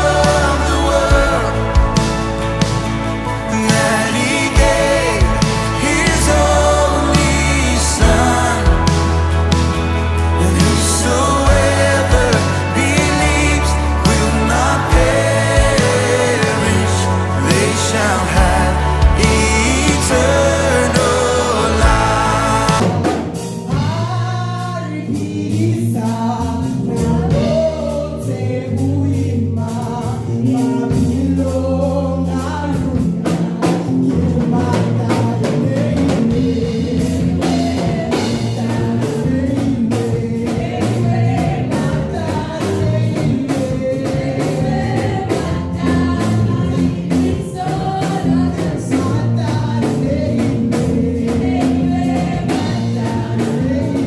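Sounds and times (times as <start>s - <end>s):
women singing together: 0.0s - 2.0s, 3.5s - 9.2s, 10.4s - 23.3s, 23.9s - 54.0s
band with drum kit: 0.0s - 54.0s.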